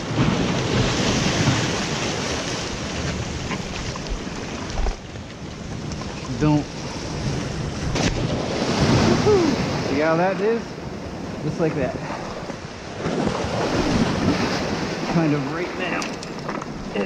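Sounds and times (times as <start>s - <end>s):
waves washing over rocks: 0.0s - 17.0s.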